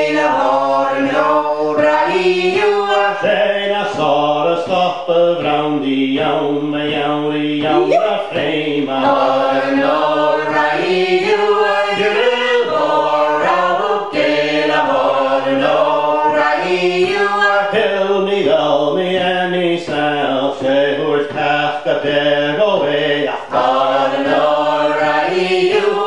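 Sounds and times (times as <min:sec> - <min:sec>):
men and women singing unaccompanied: 0:00.0 - 0:26.0.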